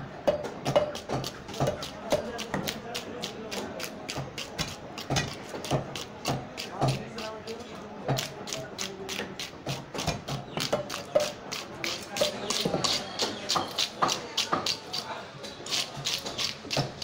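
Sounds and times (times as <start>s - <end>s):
blade cutting fish: 1.0s - 7.4s, 8.2s - 17.0s.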